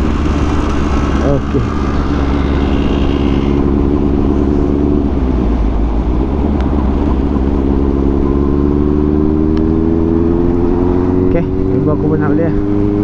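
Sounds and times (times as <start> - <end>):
motorcycle engine accelerating: 0.0 - 13.0
wind and road noise: 0.0 - 13.0.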